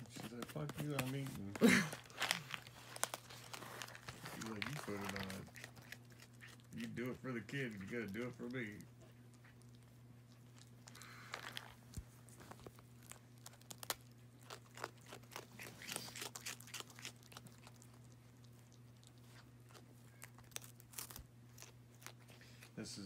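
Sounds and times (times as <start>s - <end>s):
raccoon crunching a snack: 0.0s - 23.0s.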